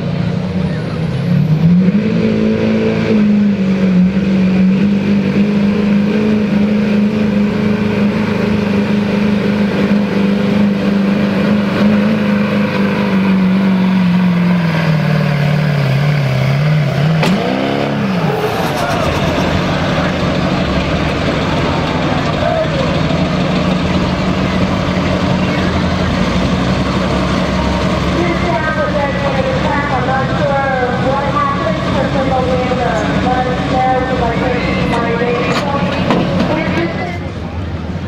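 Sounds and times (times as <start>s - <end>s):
diesel truck engine at high revs: 0.0s - 38.0s.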